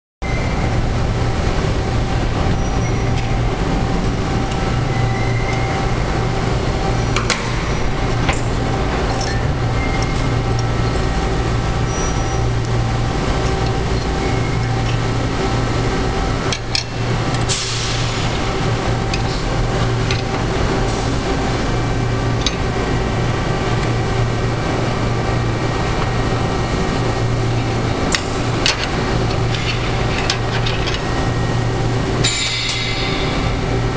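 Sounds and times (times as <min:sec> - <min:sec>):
workshop machinery humming: 0:00.2 - 0:33.9.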